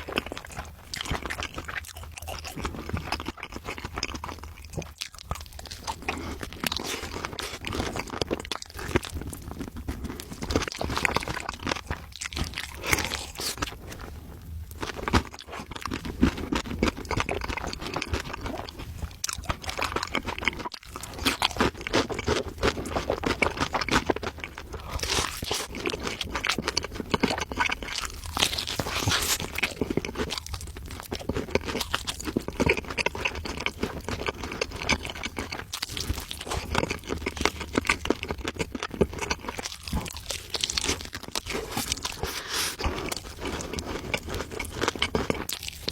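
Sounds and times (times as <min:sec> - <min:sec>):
crunchy food being chewed: 0:00.0 - 0:45.9.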